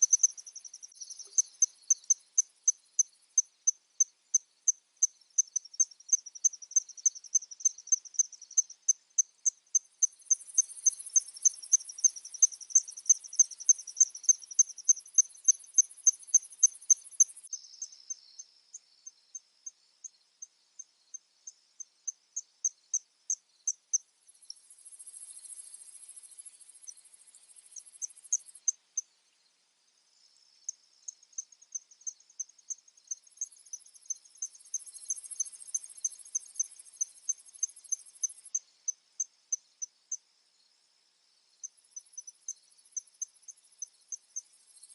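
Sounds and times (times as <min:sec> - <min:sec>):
continuous insect trill: 0:00.0 - 0:44.9
crickets chirping: 0:00.0 - 0:44.9.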